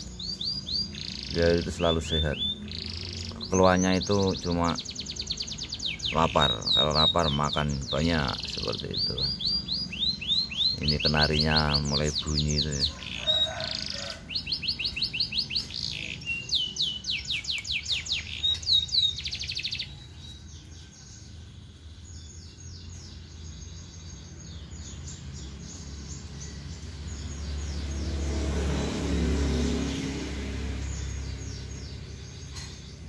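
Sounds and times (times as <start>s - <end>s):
canary singing trills: 0.0s - 33.0s.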